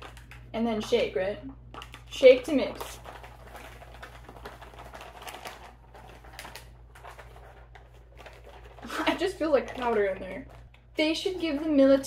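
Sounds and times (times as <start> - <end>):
drink pouch crinkling: 0.0 - 0.5, 1.6 - 11.0.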